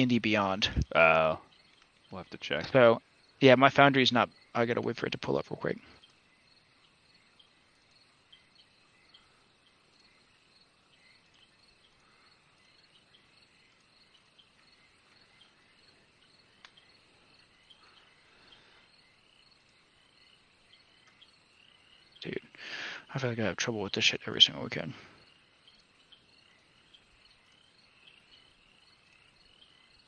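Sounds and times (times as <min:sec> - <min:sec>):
faint insect chirping: 0:00.0 - 0:30.0
low hiss: 0:00.0 - 0:30.0.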